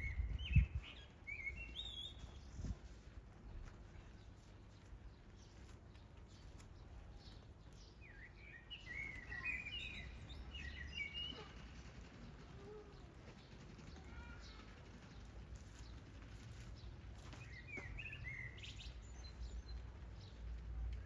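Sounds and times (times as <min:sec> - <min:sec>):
bird chirping: 0:00.0 - 0:02.8, 0:03.5 - 0:11.8, 0:12.5 - 0:20.6
faint outdoor background noise: 0:00.0 - 0:21.0.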